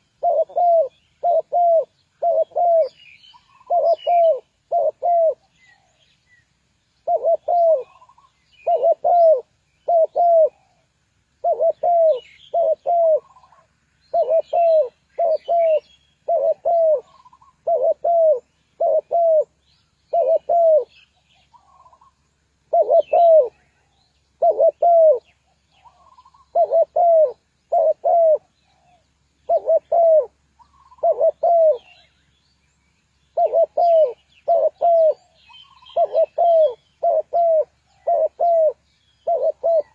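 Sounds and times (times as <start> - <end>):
dove cooing: 0.0 - 6.0, 7.0 - 32.2, 33.3 - 39.9
small birds chirping: 0.0 - 39.9.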